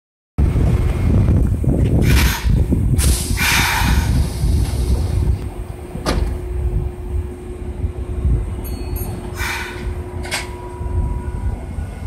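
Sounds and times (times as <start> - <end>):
train rumbling slowly: 0.4 - 12.0.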